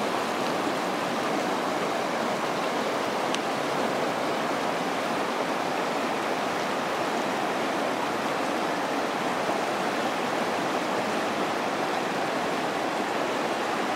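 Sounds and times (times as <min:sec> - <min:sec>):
river rushing over stones: 0:00.0 - 0:13.9.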